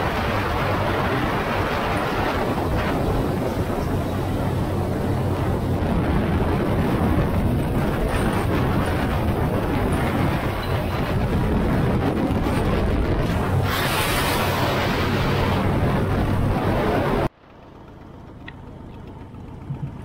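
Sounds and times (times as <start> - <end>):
wind rush over microphone: 0.0 - 17.3
motorcycle engine drone: 0.0 - 20.0.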